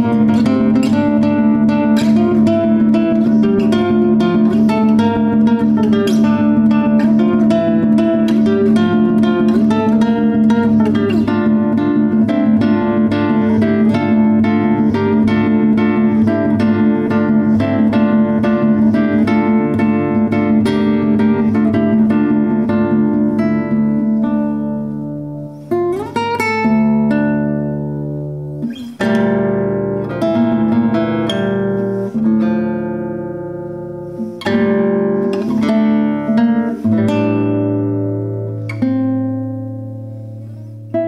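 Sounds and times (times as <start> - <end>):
fingerpicked classical guitar: 0.0 - 41.0.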